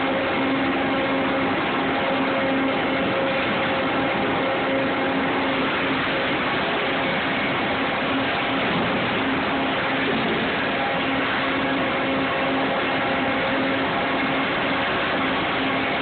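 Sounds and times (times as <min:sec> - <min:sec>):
constant low hum: 0:00.0 - 0:16.0
sawmill edger running: 0:00.0 - 0:16.0.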